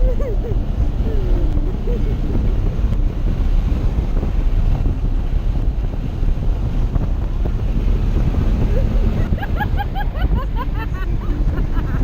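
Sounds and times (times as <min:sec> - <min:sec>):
vehicle noise: 0:00.0 - 0:12.0
wind buffeting microphone: 0:00.0 - 0:12.0.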